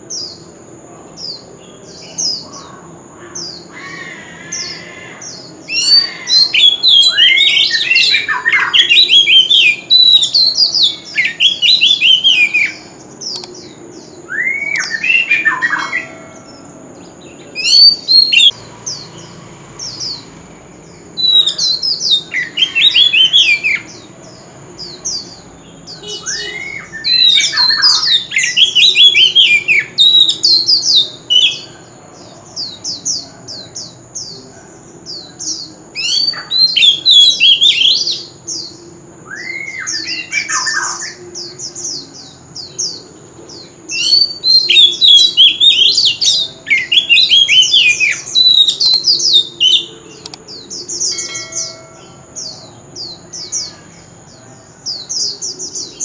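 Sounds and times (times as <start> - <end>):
bird singing loudly: 1.2 - 56.0.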